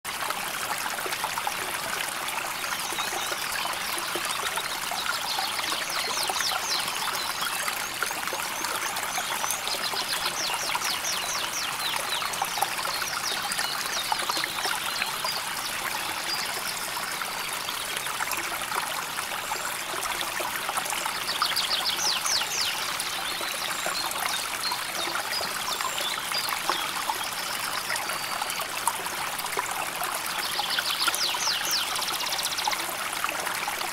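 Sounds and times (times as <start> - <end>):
river water flowing over stones: 0.1 - 33.9.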